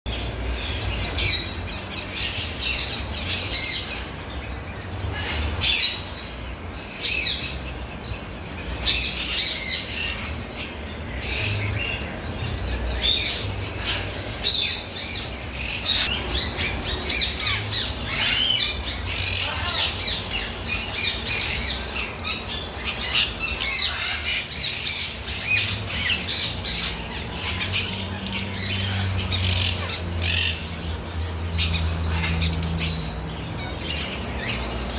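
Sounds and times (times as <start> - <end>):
many birds calling: 0.1 - 34.9.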